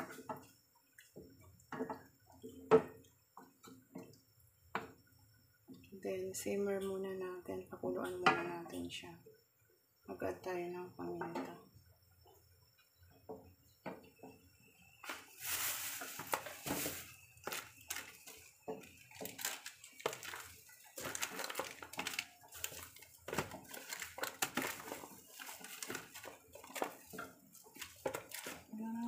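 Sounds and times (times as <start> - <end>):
broth simmering in a pot: 0.0 - 29.0.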